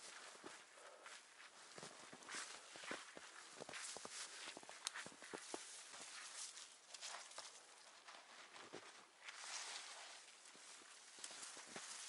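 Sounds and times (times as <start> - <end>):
conifer boughs rustling: 0.0 - 12.0.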